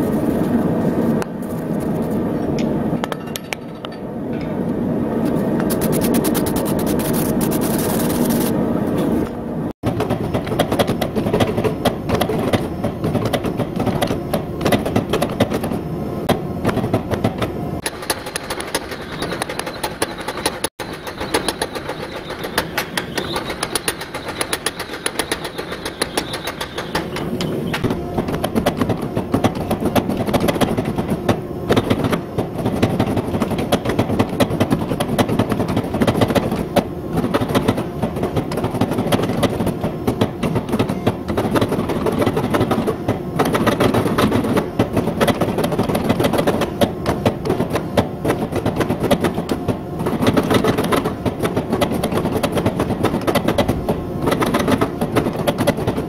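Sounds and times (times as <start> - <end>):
power hammer pounding steel: 9.8 - 56.0.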